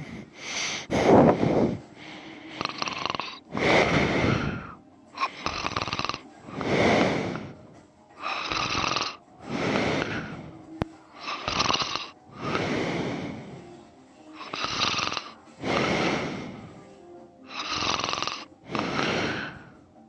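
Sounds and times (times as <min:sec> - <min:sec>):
person snoring: 0:00.0 - 0:13.7, 0:14.4 - 0:16.9, 0:17.5 - 0:19.8.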